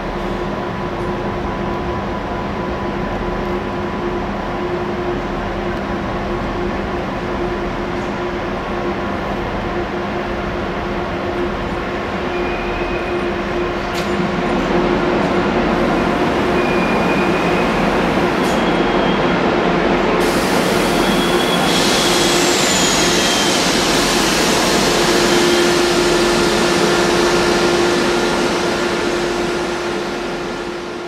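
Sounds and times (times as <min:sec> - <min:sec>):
train humming: 0:00.1 - 0:31.0
train rolling to a stop: 0:00.2 - 0:31.0.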